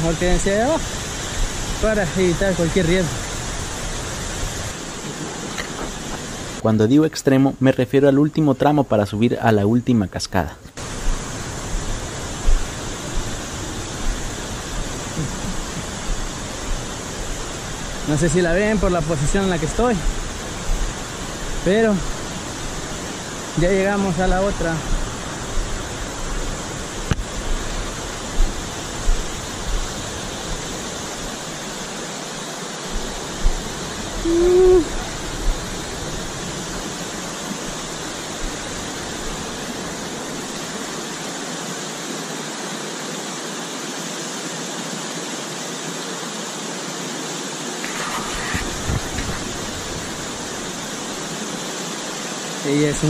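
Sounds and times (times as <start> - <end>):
waterfall rushing: 0.0 - 7.3, 10.2 - 53.0.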